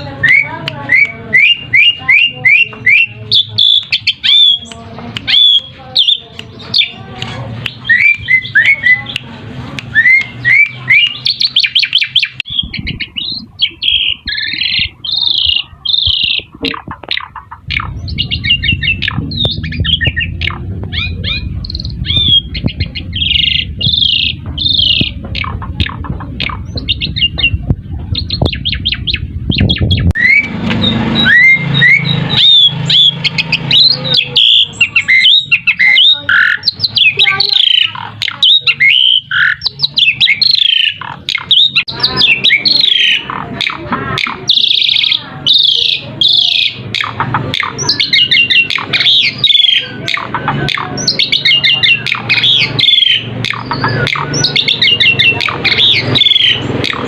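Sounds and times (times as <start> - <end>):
low rumbling noise: 0.0 - 57.0
starling song: 0.0 - 57.0.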